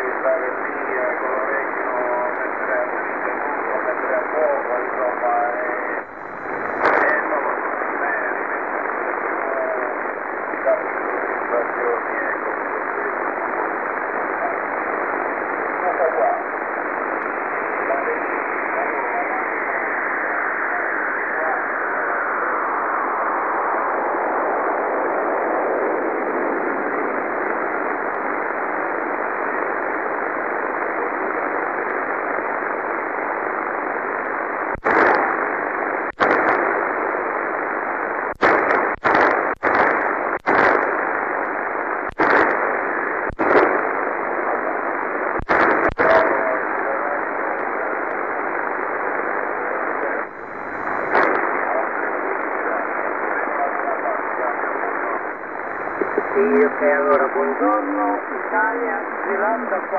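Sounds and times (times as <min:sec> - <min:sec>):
radio clicks and crackles: 0:00.0 - 0:59.9
radio static hiss: 0:00.0 - 0:59.9.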